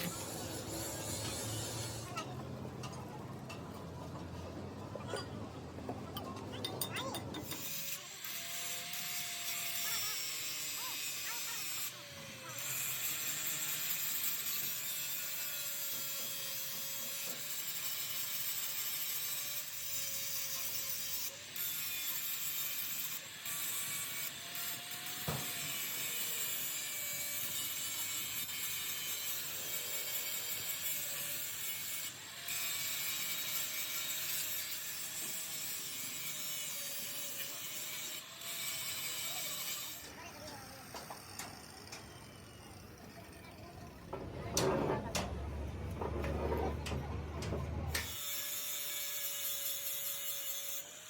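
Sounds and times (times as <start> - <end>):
power tool grinding metal: 0.0 - 2.4, 6.7 - 45.4, 46.0 - 51.0.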